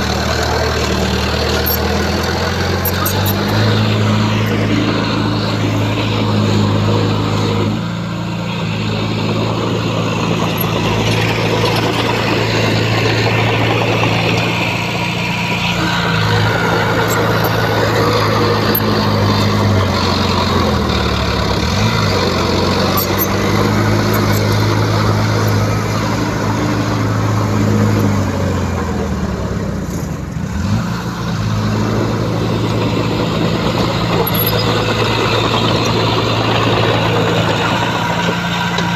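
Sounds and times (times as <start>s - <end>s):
rough mechanical din: 0.0s - 28.8s, 30.8s - 38.9s
heavy diesel engine under load: 0.0s - 38.9s.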